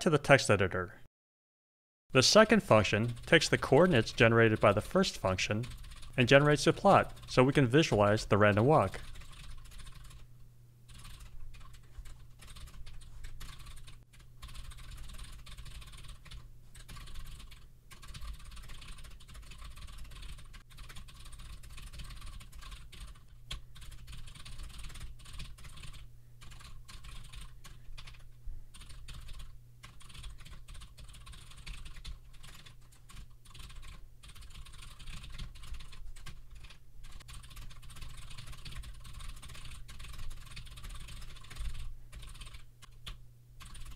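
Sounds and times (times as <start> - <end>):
low steady hum: 2.2 - 43.9
keyboard typing: 2.4 - 10.3, 10.9 - 43.9.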